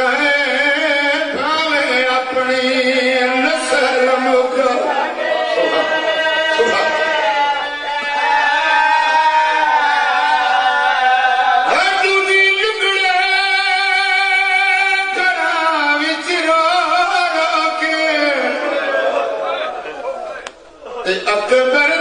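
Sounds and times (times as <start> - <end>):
man singing through microphone: 0.0 - 10.0, 11.6 - 18.9, 21.0 - 22.0.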